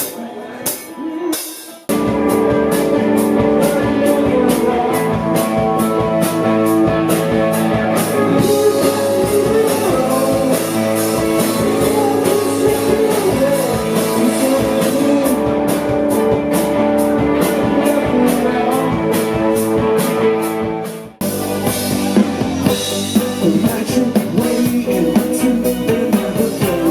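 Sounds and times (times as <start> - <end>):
live rock band playing: 0.0 - 26.9
electric guitar chords: 1.9 - 26.9.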